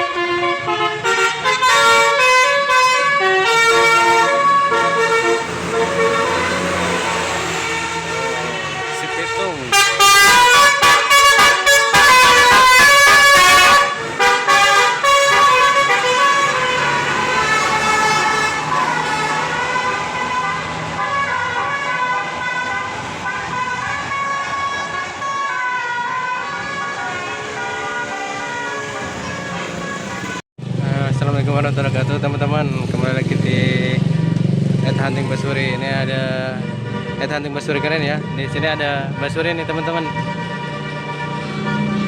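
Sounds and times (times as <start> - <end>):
bus musical air horn melody: 0.0 - 30.4, 35.8 - 42.0.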